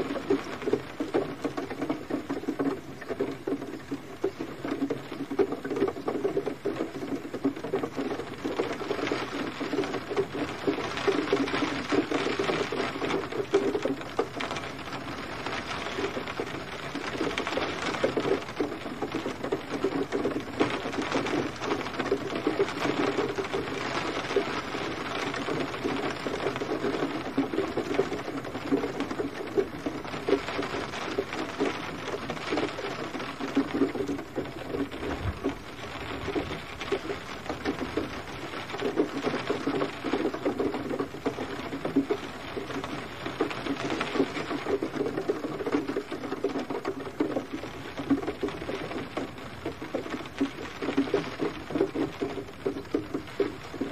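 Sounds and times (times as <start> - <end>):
gentle rain patter: 0.0 - 53.9.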